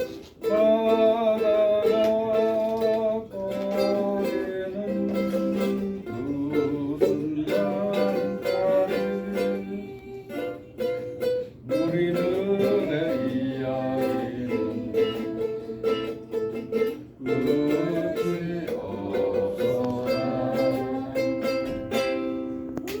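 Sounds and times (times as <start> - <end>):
person singing: 0.0 - 23.0
ukulele strumming: 0.0 - 23.0.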